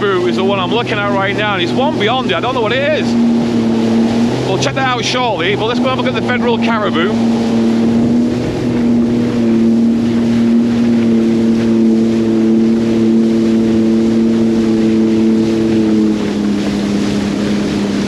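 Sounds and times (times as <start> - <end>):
personal watercraft engine: 0.0 - 18.0
rushing water: 0.0 - 18.0.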